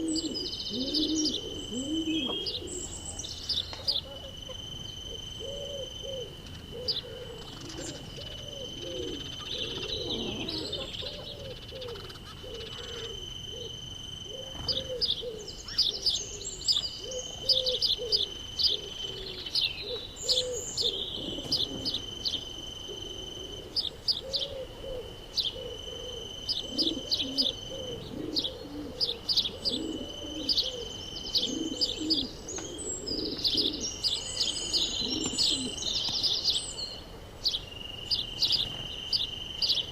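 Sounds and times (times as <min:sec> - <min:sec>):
dove cooing: 0:00.0 - 0:37.6
songbirds chirping: 0:00.0 - 0:39.9.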